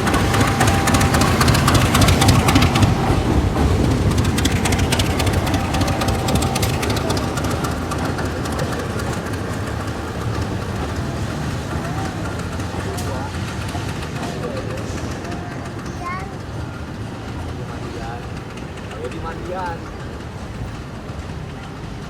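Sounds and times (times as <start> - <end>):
train engine rumble: 0.0 - 22.0
wheels clicking over rail joints: 0.0 - 22.0.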